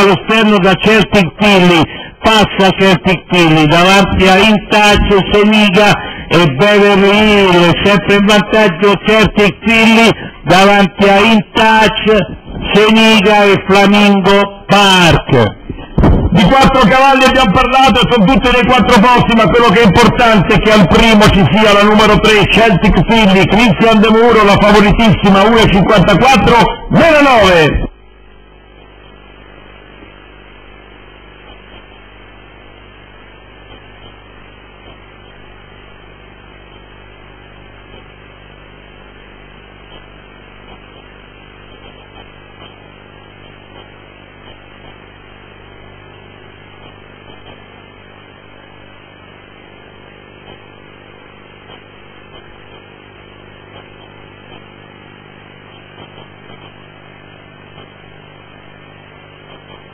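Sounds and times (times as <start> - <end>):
electrical hum and hiss: 0.0 - 59.9.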